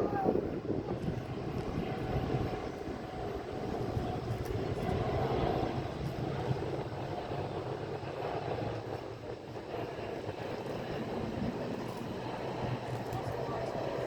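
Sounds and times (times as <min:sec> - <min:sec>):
distant jet engines rumbling: 0:00.0 - 0:14.0.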